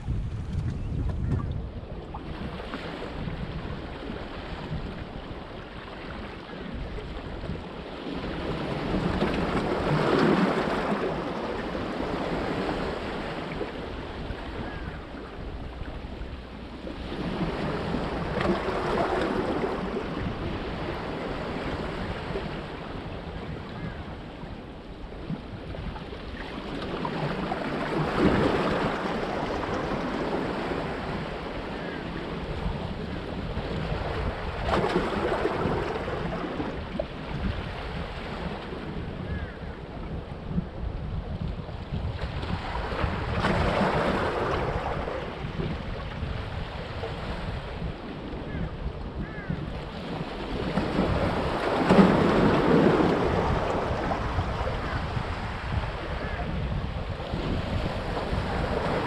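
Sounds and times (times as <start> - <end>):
wind on microphone: 0.0 - 59.0.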